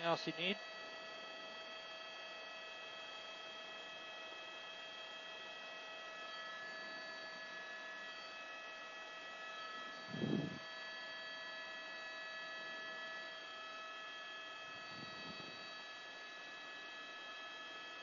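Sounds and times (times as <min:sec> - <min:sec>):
helicopter cabin whine: 0:00.0 - 0:18.0.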